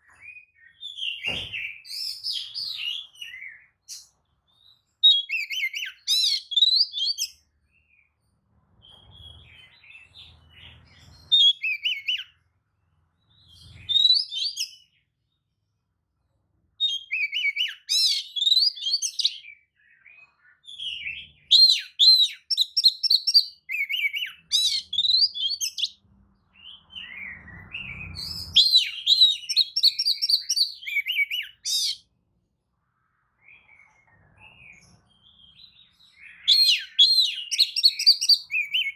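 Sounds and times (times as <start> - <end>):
bird singing whistled notes: 0.0 - 8.2, 8.8 - 12.4, 13.2 - 15.0, 16.8 - 26.0, 26.6 - 32.0, 33.4 - 38.9.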